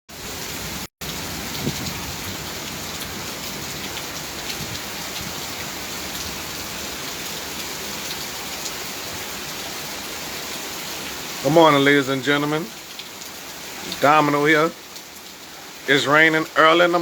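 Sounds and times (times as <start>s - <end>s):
heavy rain pouring: 0.1s - 17.0s.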